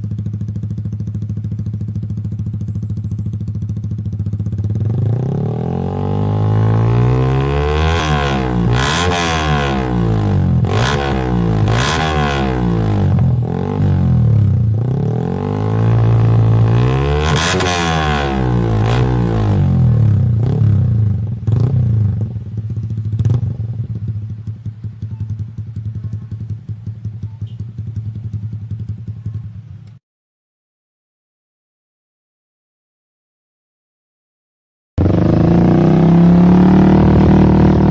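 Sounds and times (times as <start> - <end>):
motorcycle engine revving: 0.0 - 29.9, 35.0 - 37.9.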